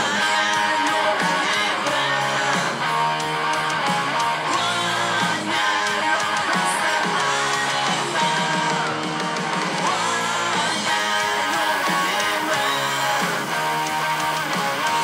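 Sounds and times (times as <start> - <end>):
bass line: 0.0 - 15.0
song with strummed guitars: 0.0 - 15.0.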